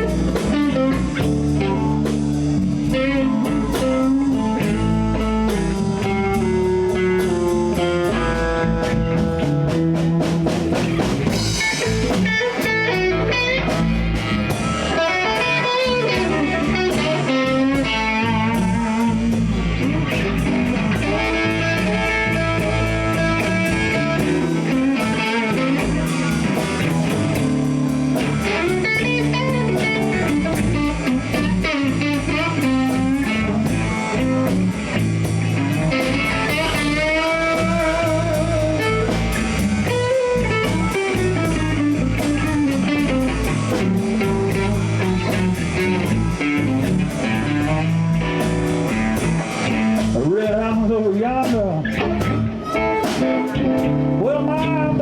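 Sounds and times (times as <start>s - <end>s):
bass guitar: 0.0s - 55.0s
drum kit: 0.0s - 55.0s
electric guitar lines: 0.0s - 55.0s.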